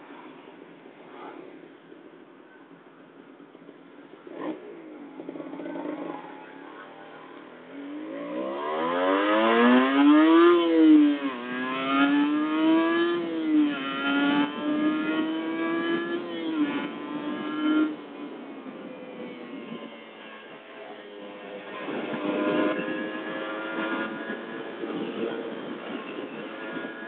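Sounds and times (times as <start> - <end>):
motorcycle engine accelerating: 4.2 - 27.0.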